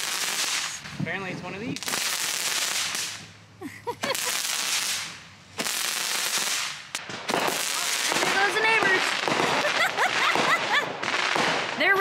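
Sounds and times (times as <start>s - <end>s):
roman candle shots: 0.0s - 12.0s.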